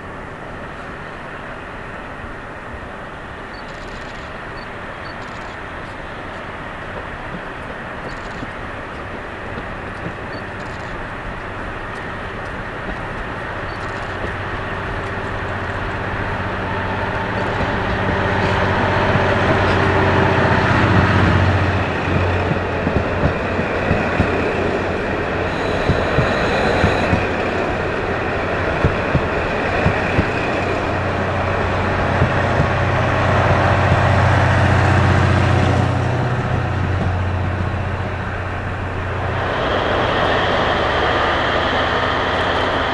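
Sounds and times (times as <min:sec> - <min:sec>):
diesel engine drone: 0:00.0 - 0:42.9
train wheels clicking over rail joints: 0:03.6 - 0:42.9.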